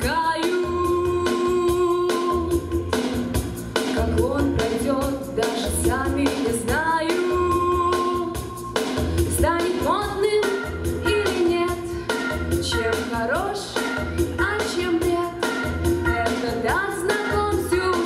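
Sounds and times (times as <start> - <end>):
woman singing into microphone: 0.0 - 2.9, 3.9 - 8.7, 9.3 - 18.0
instrumental music with beat: 0.0 - 18.0.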